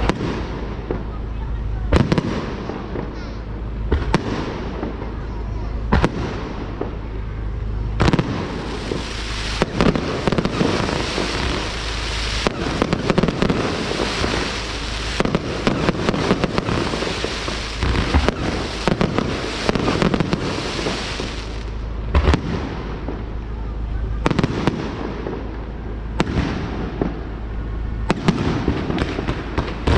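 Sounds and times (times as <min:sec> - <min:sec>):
fireworks bangs: 0:00.0 - 0:29.9
fireworks crackling: 0:00.0 - 0:29.9.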